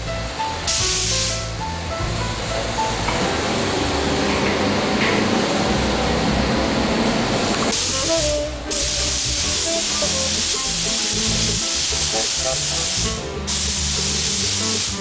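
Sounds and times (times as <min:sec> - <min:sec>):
background music: 0:00.0 - 0:15.0
spray gun hissing: 0:00.6 - 0:04.0, 0:04.8 - 0:15.0.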